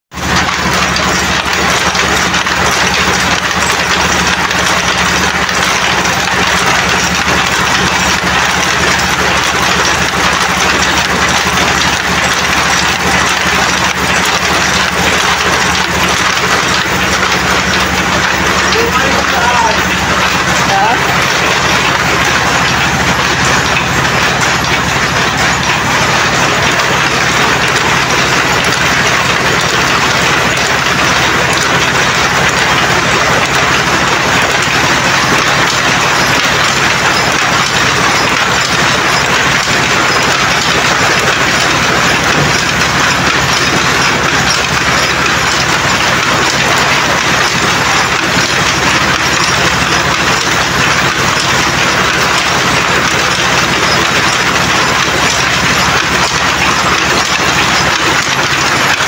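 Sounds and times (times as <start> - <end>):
power looms clattering: 0.1 - 59.0.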